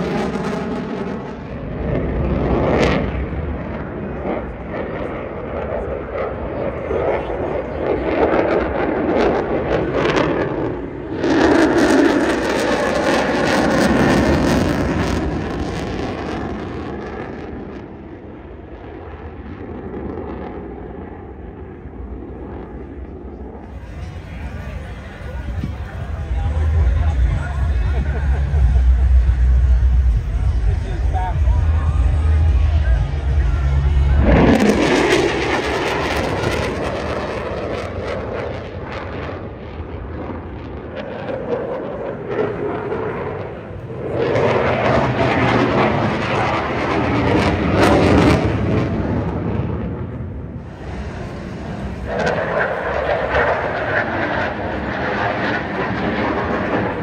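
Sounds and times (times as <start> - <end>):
jet fighter flying past: 0.0 - 57.0.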